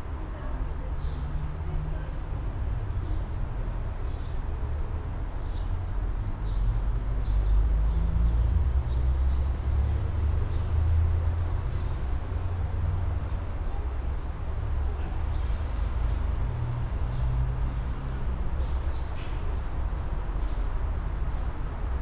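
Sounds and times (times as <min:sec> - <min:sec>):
tram equipment hum: 0:00.0 - 0:22.0.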